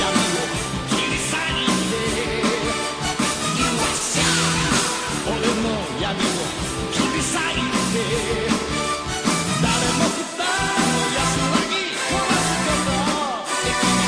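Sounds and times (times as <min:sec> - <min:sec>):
person singing: 0:00.0 - 0:14.0
rock band playing: 0:00.0 - 0:14.0.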